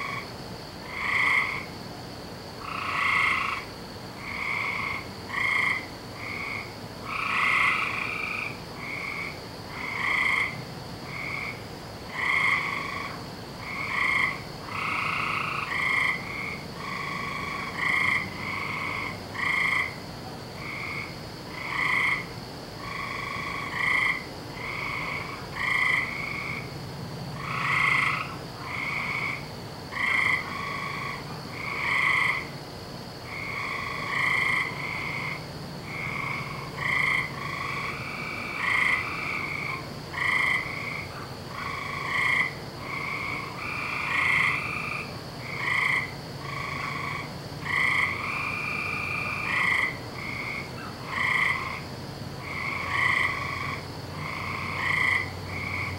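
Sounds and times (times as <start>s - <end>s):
faint high-pitched hum: 0.0s - 55.9s
frogs croaking: 0.0s - 55.9s.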